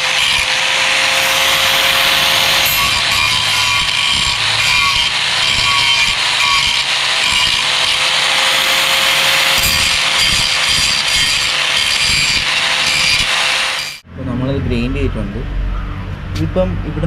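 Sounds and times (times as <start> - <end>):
angle grinder grinding metal: 0.0 - 14.0.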